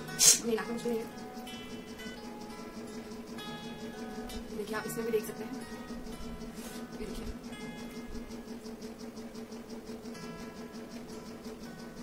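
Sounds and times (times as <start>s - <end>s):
fast ticking beat: 0.0s - 12.0s.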